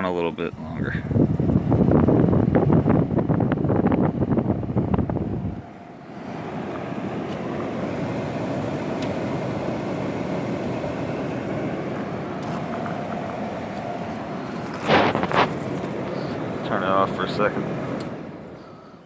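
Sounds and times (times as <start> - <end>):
air conditioner blower whoosh: 0.0 - 19.0
faint hum: 0.0 - 19.0.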